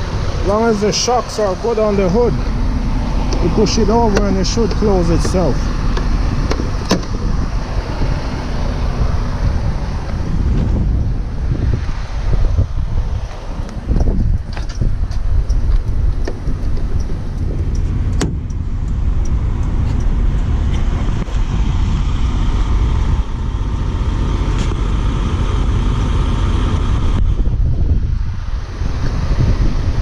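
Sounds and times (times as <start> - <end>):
vehicle low rumble: 0.0 - 30.0
wind on microphone: 0.0 - 30.0.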